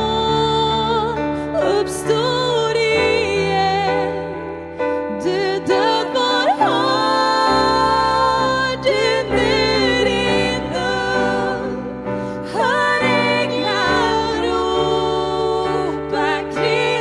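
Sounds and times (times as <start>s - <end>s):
electric piano chords: 0.0s - 17.0s
person singing with vibrato: 0.0s - 17.0s.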